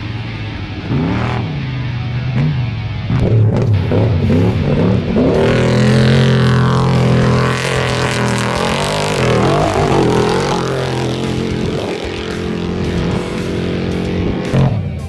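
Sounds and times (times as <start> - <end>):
truck engine passing at high revs: 0.0 - 15.0.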